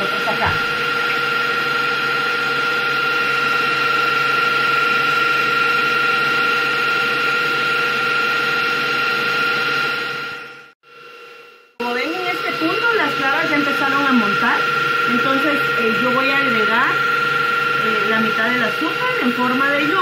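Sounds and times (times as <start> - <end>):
stand mixer whisking: 0.0 - 10.6, 11.8 - 20.0.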